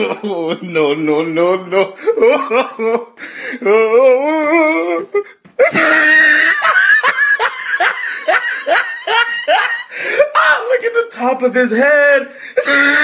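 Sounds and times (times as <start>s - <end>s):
person laughing loudly: 0.0s - 1.0s, 1.7s - 10.8s, 12.6s - 13.0s.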